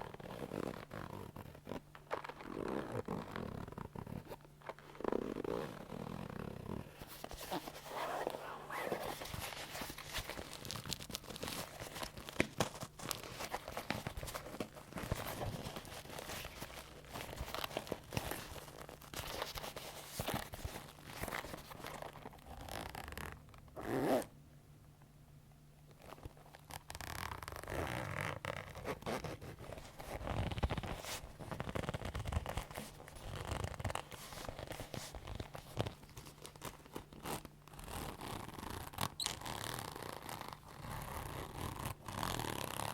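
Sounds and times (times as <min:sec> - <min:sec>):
leather creaking and rubbing: 0:00.0 - 0:24.3, 0:25.9 - 0:42.9.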